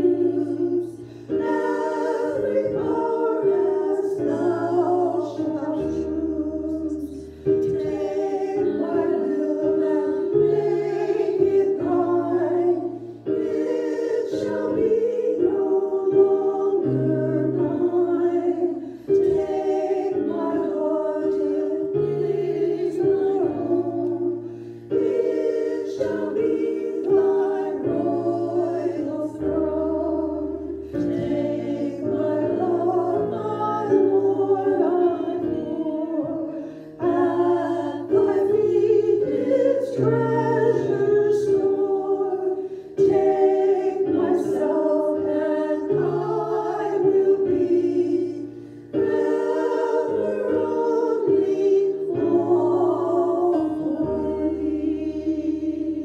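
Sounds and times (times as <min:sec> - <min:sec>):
piano chords: 0:00.0 - 0:56.0
women singing a hymn: 0:00.0 - 0:56.0.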